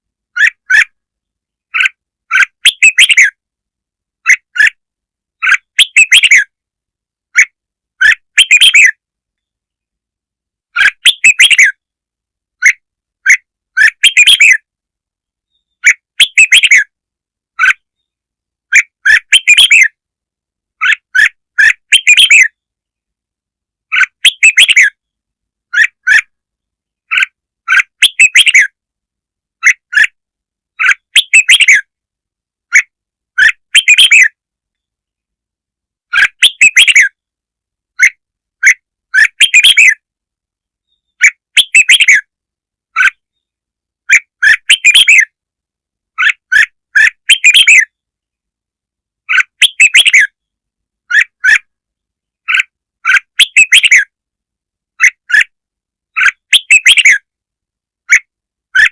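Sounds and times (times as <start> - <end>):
bird chirping song: 0.3 - 3.5, 4.2 - 6.6, 7.3 - 10.0, 10.7 - 20.1, 20.7 - 23.2, 23.8 - 28.8, 29.6 - 32.0, 32.7 - 35.3, 36.0 - 45.4, 46.1 - 48.4, 49.2 - 54.2, 55.0 - 57.4.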